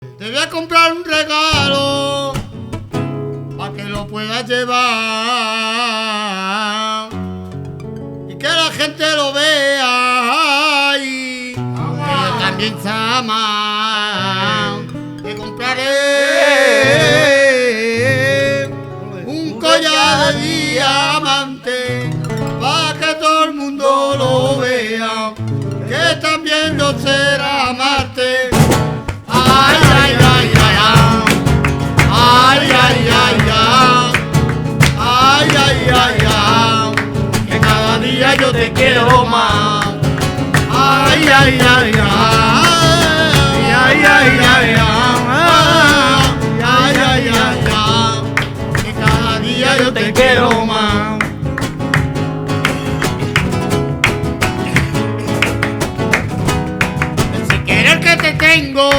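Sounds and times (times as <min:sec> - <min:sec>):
acoustic guitar strumming: 0:00.0 - 0:58.9
person singing flamenco: 0:00.0 - 0:58.9.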